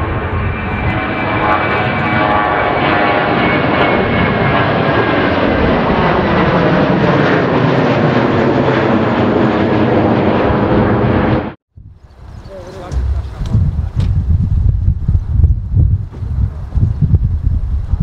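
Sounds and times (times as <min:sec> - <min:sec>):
jet engines roaring: 0:00.0 - 0:11.6, 0:12.5 - 0:15.4.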